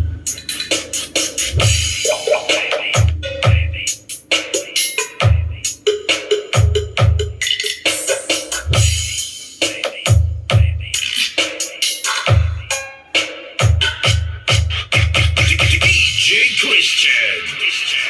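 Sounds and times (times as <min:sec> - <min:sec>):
drum machine beat: 0:00.0 - 0:18.0.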